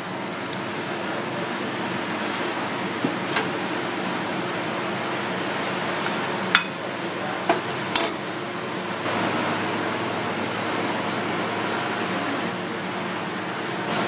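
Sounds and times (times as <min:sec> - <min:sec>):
steady rushing background noise: 0:00.0 - 0:14.0.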